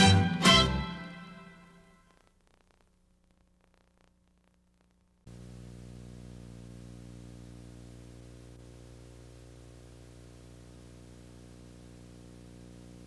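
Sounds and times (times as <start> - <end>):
tape hiss: 0.0 - 13.0
buzzy electrical hum: 1.4 - 13.0.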